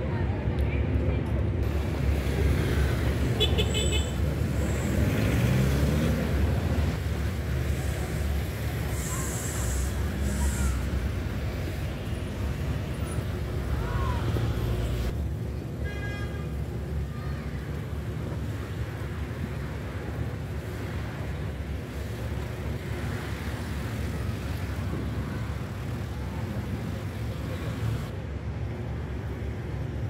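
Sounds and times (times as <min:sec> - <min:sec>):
low rumble of city traffic: 0:00.0 - 0:30.0.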